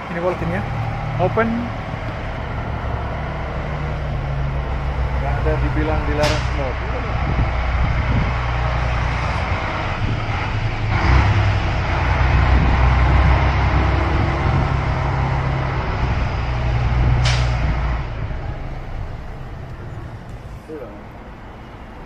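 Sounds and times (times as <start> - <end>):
truck engine droning past: 0.0 - 22.0.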